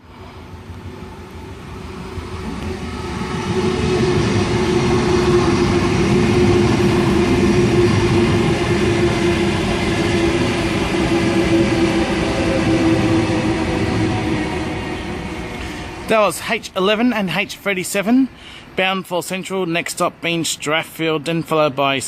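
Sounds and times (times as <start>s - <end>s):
train wheels rumbling on rails: 0.0s - 18.1s
train drone: 0.0s - 22.0s.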